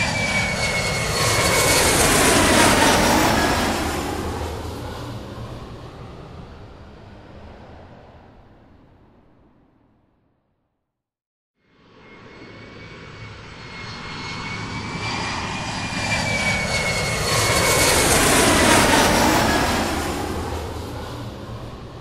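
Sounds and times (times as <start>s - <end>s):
airplane flying over: 0.0s - 10.8s, 11.6s - 22.0s.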